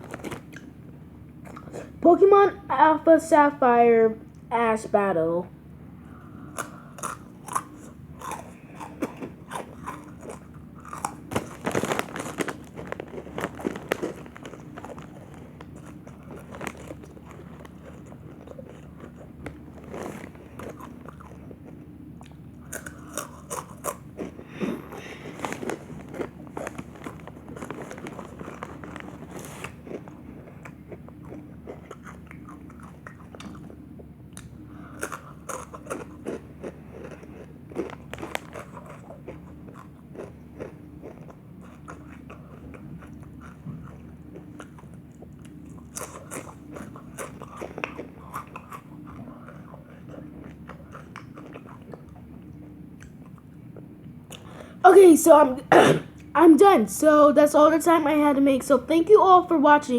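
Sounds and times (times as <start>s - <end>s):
chewing crunchy chips: 0.0s - 0.8s, 1.4s - 2.0s, 6.2s - 54.7s.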